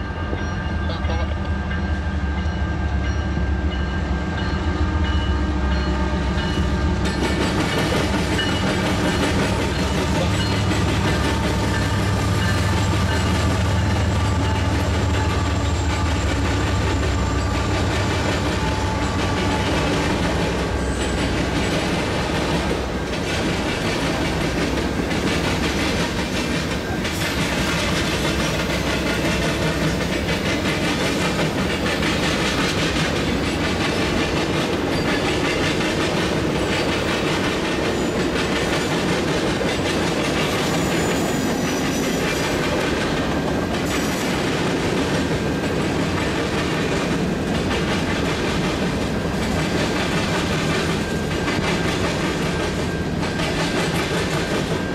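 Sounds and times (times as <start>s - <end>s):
diesel locomotive engines rumbling: 0.0s - 54.9s
train wheels clattering on rail joints: 0.0s - 54.9s.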